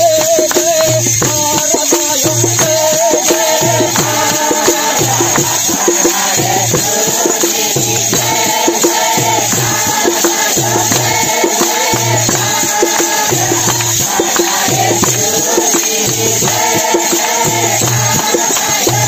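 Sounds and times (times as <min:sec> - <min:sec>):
barrel drum beat: 0:00.0 - 0:19.0
group singing devotional song: 0:00.0 - 0:19.0.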